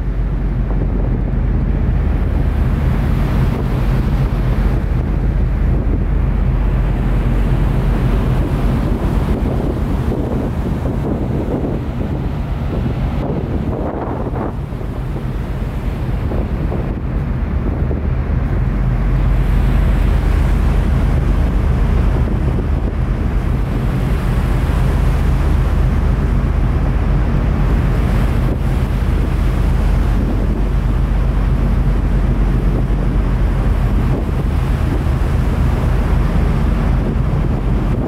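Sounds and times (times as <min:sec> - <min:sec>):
sea water rushing past hull: 0:00.0 - 0:38.0
ship engines humming: 0:00.0 - 0:38.0
wind rumbling on microphone: 0:00.0 - 0:38.0.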